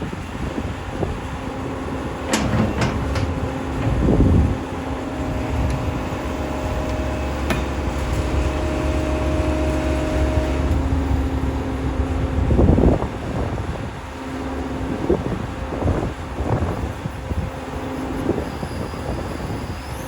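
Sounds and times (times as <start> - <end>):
excavator engine drone: 0.0 - 20.0
hydraulic whine: 0.0 - 20.0.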